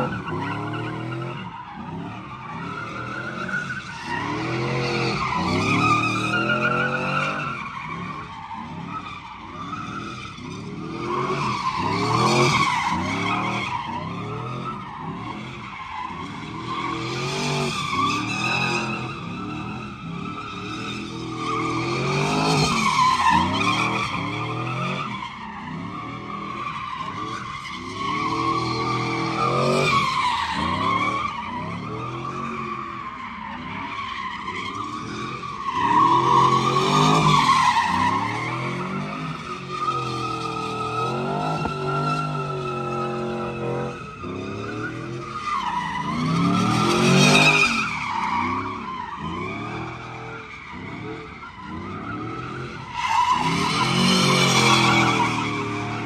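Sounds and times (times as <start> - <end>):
tires squealing on pavement: 0.0 - 56.0.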